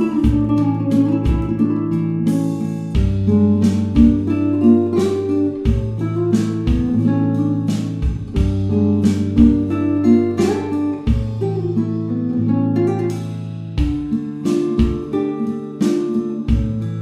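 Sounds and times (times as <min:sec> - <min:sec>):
bass line: 0:00.0 - 0:15.2
plucked guitar tune: 0:00.0 - 0:17.0.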